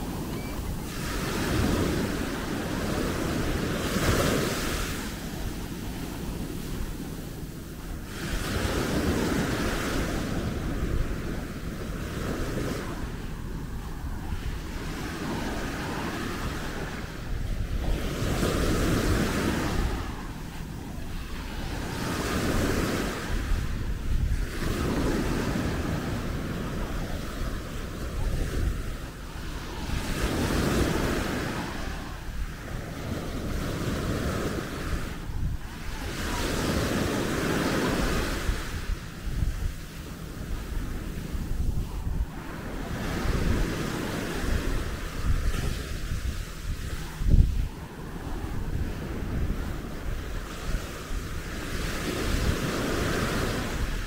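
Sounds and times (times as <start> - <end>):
sea waves breaking: 0.0 - 54.0
wind on microphone: 0.0 - 54.0.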